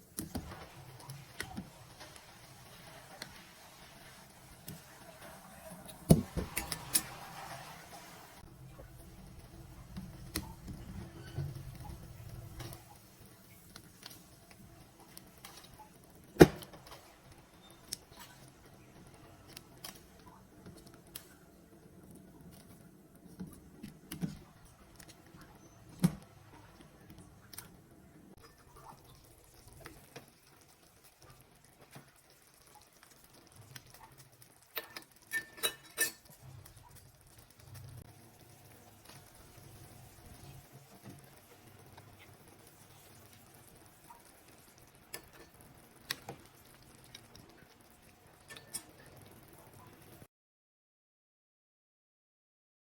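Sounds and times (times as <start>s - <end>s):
cooking clicks and knocks: 0.0s - 50.3s.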